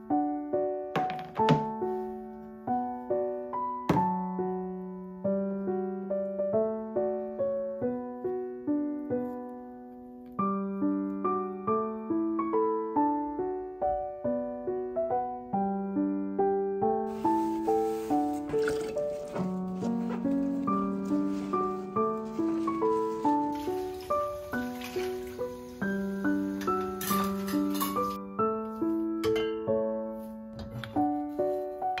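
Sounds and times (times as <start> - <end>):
piano melody: 0.0 - 32.0.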